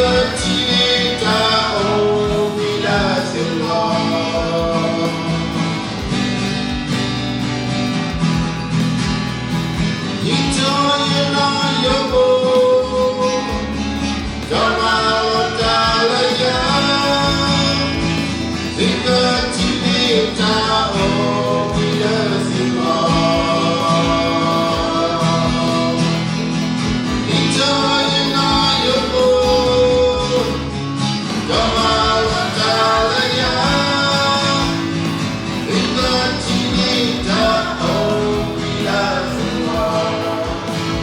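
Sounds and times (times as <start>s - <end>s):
person singing: 0.0s - 6.9s, 10.1s - 13.8s, 14.4s - 41.0s
strummed acoustic guitar: 0.0s - 41.0s.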